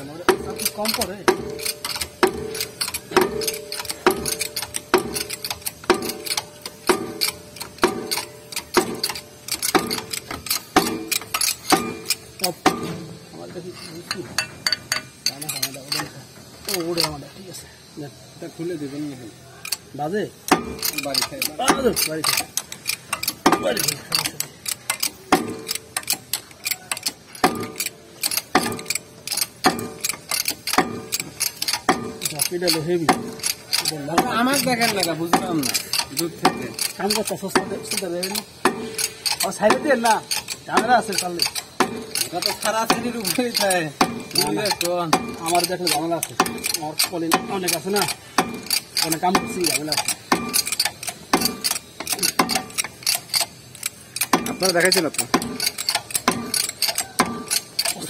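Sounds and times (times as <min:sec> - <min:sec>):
heavy metal clanks: 0:00.0 - 0:17.2, 0:19.8 - 0:58.0
light metal clicks and taps: 0:00.3 - 0:12.9, 0:20.5 - 0:58.0.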